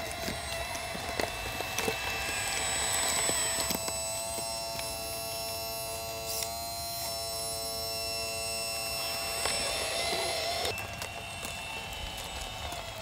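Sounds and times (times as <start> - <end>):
toy bulldozer motors whining: 0.0 - 13.0.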